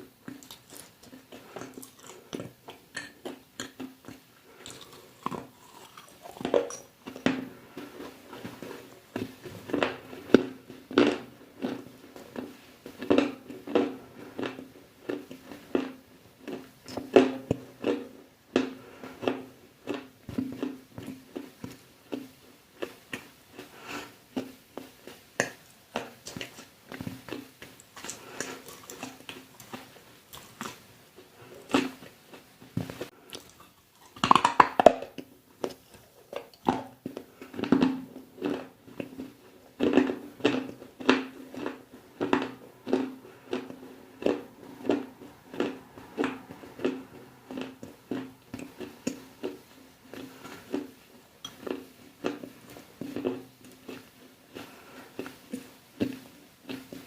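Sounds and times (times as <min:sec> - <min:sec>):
crunchy chewing and biting: 0:00.2 - 0:57.0.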